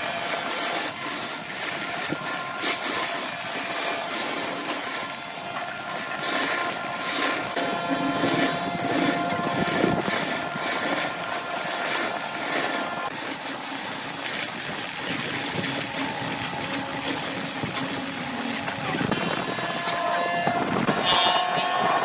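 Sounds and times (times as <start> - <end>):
wood lathe running: 0.0 - 22.0.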